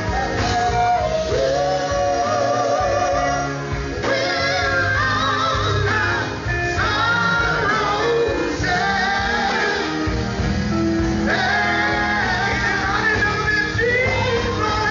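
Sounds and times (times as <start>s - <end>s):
male vocal group singing: 0.0s - 10.4s, 11.1s - 14.9s
band playing: 0.0s - 14.9s.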